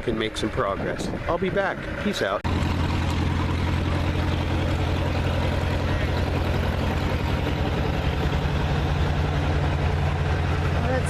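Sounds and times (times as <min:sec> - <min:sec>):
heavy vehicle engine idling: 0:00.1 - 0:11.0.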